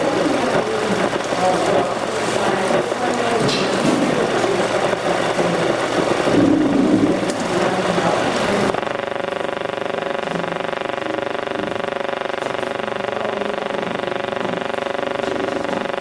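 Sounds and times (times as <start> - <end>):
buzzing drone with flutter: 0.0 - 16.0
dense machine-like noise: 0.0 - 16.0.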